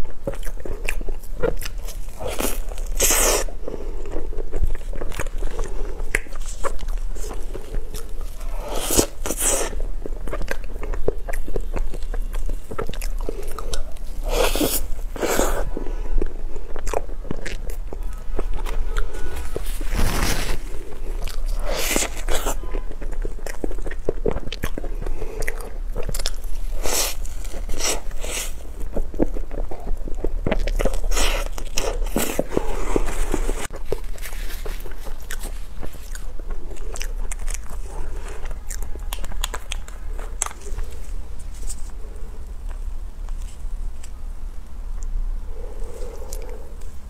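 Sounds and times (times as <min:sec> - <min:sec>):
person chewing pastry: 0:00.0 - 0:47.0
steady low hum: 0:00.0 - 0:47.0.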